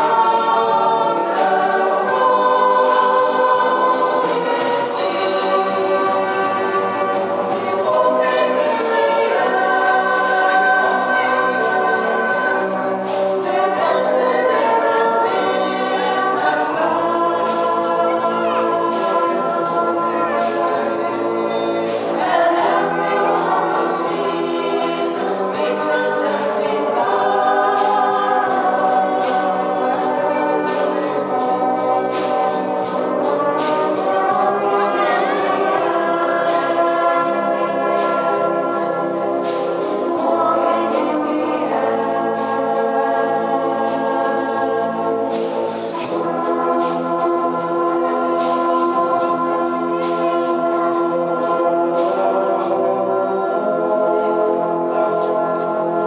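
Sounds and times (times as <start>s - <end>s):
crowd singing a christmas song: 0.0s - 56.0s
wind band with brass: 0.0s - 56.0s.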